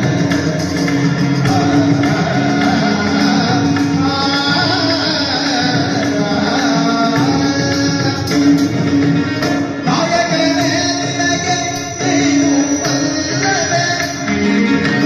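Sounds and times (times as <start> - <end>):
man singing into microphone: 0.0 - 8.9, 9.8 - 15.0.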